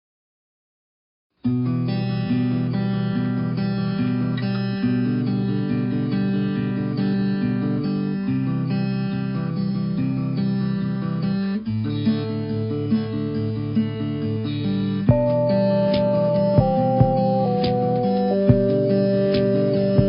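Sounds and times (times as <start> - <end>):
strummed acoustic guitar music: 1.4 - 20.0.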